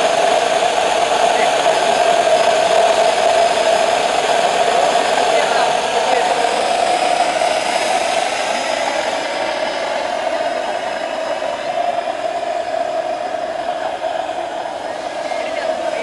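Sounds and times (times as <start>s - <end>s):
turbojet engine whine: 0.0s - 16.0s.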